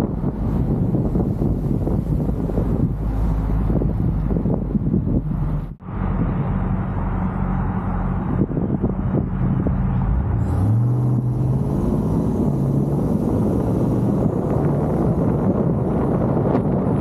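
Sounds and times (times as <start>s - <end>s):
car engine idling and accelerating: 0.0s - 17.0s
road and wind noise: 0.0s - 17.0s.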